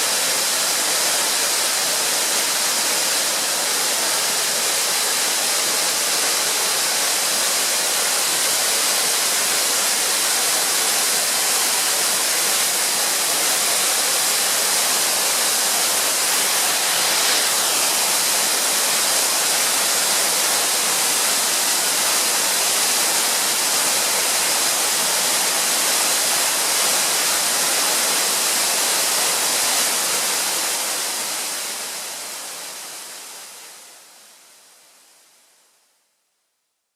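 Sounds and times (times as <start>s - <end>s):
waterfall rush: 0.0s - 34.2s.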